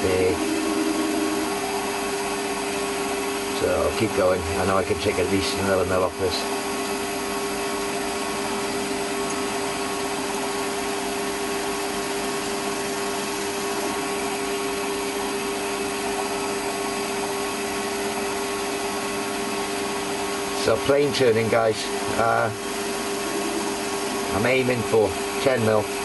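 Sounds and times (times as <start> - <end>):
metal lathe motor humming: 0.0 - 26.0.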